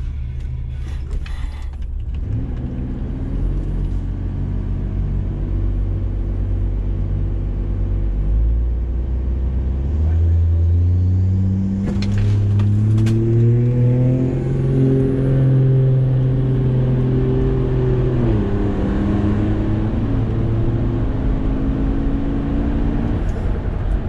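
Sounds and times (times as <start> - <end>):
car engine at full throttle: 0.0 - 24.0.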